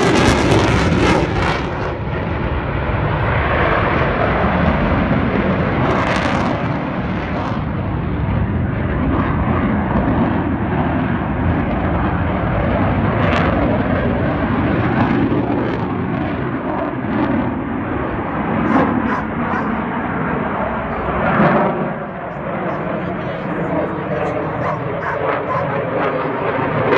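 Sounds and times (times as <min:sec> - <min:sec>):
jet flying overhead: 0:00.0 - 0:26.9.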